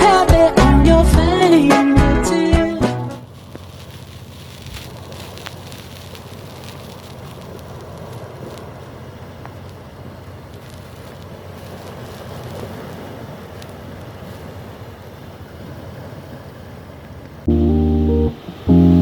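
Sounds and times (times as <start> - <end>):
surf washing: 2.7 - 19.0.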